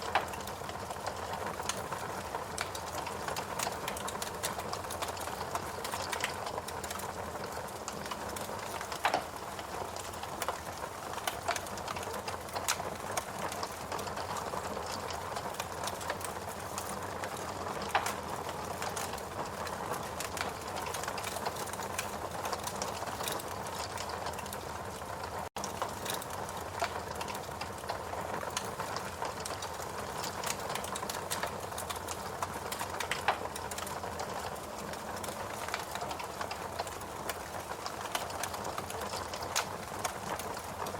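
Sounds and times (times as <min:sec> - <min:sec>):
fireplace crackling and popping: 0:00.0 - 0:40.9.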